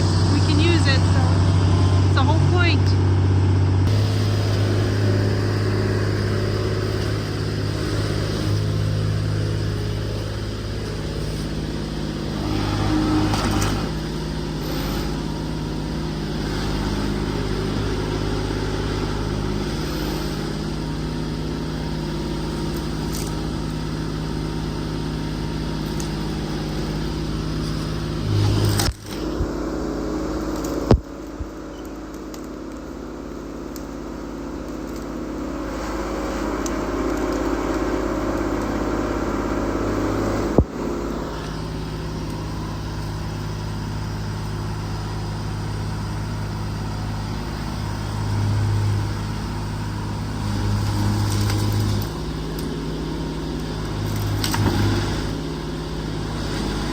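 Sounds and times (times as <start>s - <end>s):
excavator diesel engine idling: 0.0s - 32.1s, 32.9s - 56.9s.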